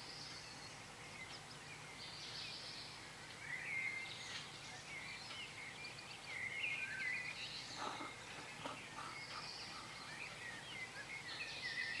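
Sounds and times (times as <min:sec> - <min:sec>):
faint background hiss: 0:00.0 - 0:12.0
songbirds chirping and trilling: 0:00.0 - 0:12.0.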